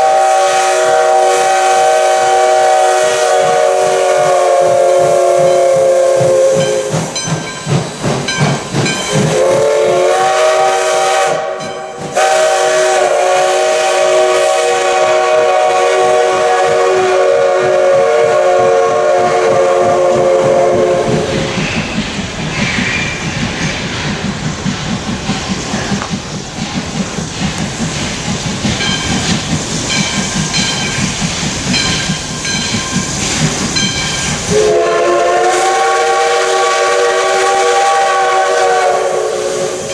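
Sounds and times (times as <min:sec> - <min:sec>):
steam locomotive chime whistle: 0:00.0 - 0:22.0, 0:28.8 - 0:39.9
steam locomotive exhaust chuffing: 0:00.0 - 0:39.9.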